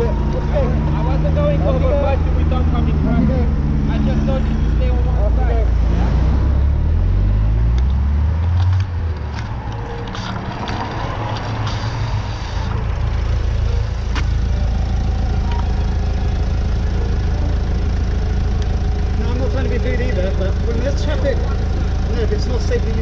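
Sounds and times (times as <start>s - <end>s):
van engine idling: 0.0s - 5.8s, 10.0s - 23.0s.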